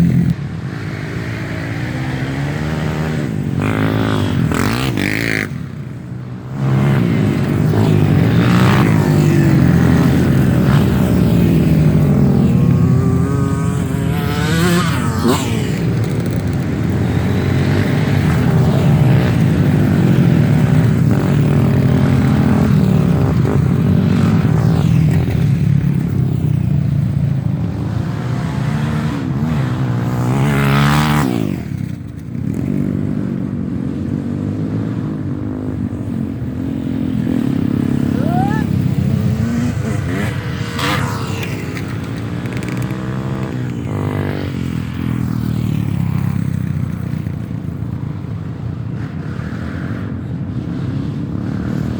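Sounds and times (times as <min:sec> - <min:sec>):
dirt bike engines revving: 0:00.0 - 0:51.9
dirt bike passing close: 0:00.0 - 0:51.9.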